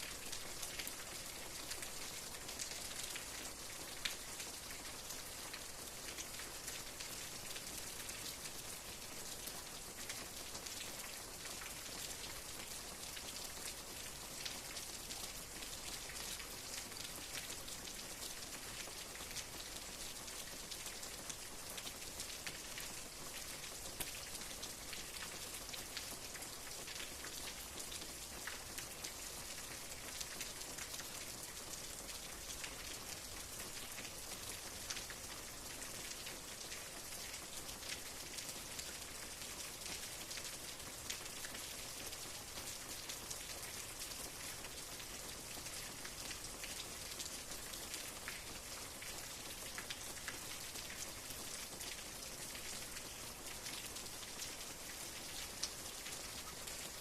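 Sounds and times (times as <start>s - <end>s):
rain drops ticking on a surface: 0.0s - 57.0s.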